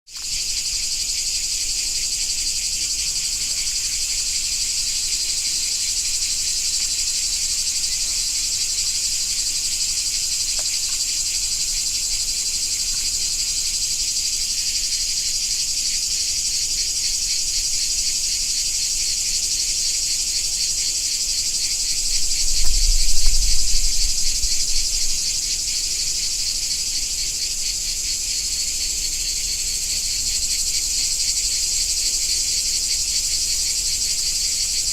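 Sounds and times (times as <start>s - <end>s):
insect chorus buzzing: 0.1s - 34.9s.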